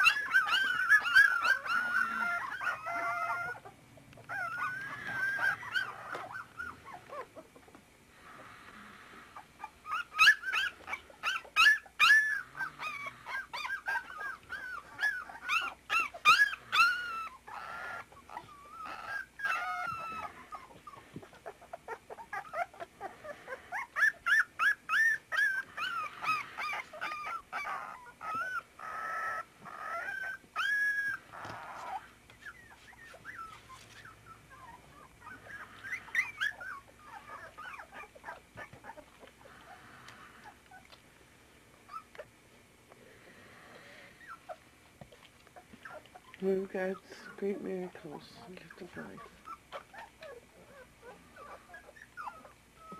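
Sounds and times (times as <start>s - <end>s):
puppies whimpering and yelping: 0.0s - 42.6s, 43.2s - 52.9s.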